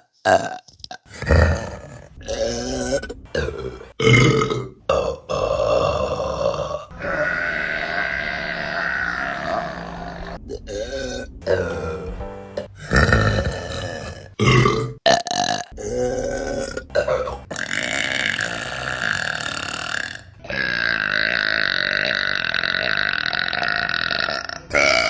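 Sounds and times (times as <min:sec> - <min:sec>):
woman burping: 0:00.2 - 0:11.8, 0:12.6 - 0:25.0.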